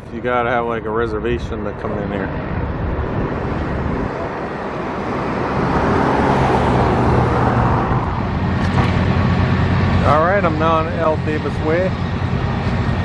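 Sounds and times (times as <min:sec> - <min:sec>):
low engine hum: 0:00.0 - 0:13.0
road traffic passing: 0:00.0 - 0:13.0.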